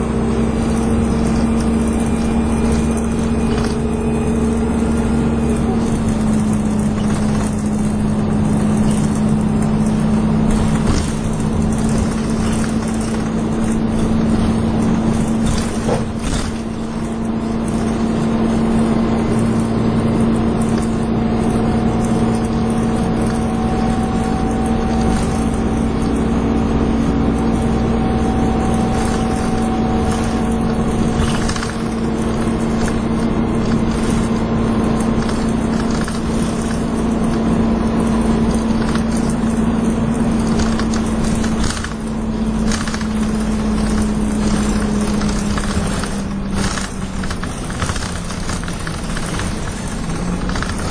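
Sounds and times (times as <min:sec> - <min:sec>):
bus engine whine: 0:00.0 - 0:50.9.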